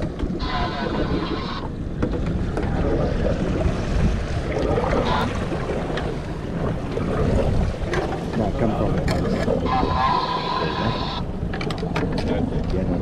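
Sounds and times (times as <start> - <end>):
sea water washing around boat: 0.0 - 13.0
wind buffeting microphone: 0.0 - 13.0.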